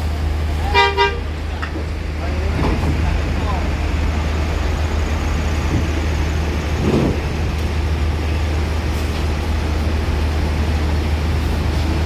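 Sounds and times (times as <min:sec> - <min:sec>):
coach diesel engine droning: 0:00.0 - 0:12.0.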